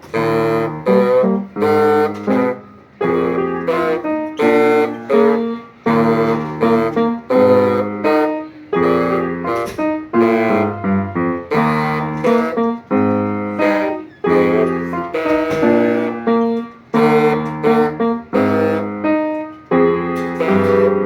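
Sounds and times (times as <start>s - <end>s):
piano: 0.0s - 21.0s
band playing held chords: 0.1s - 21.0s.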